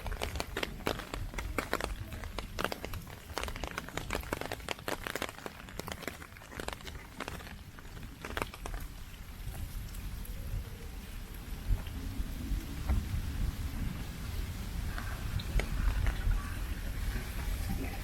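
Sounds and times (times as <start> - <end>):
raindrops striking close: 0.0 - 18.0.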